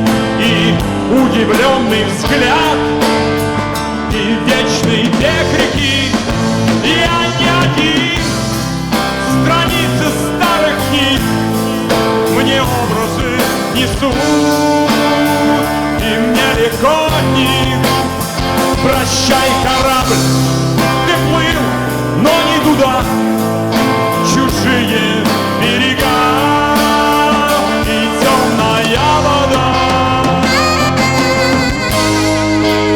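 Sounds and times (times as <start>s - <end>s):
melodic lead guitar line: 0.0s - 32.9s
rock band playing live: 0.0s - 32.9s.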